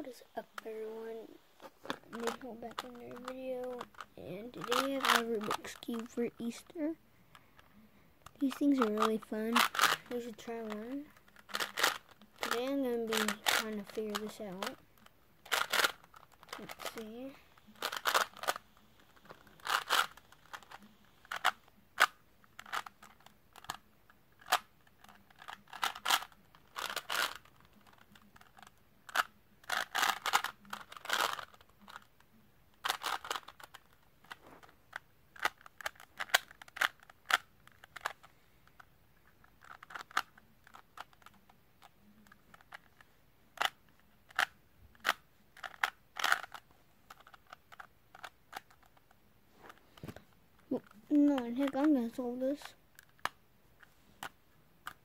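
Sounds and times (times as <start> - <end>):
puzzle cube clicking: 0.6 - 55.0.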